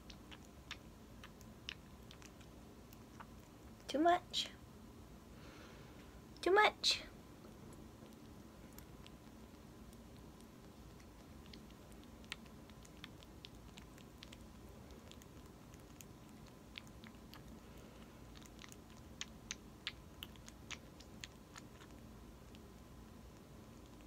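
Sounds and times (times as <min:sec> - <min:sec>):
wet suckling clicks and smacks: 0:00.0 - 0:03.9, 0:07.5 - 0:24.0.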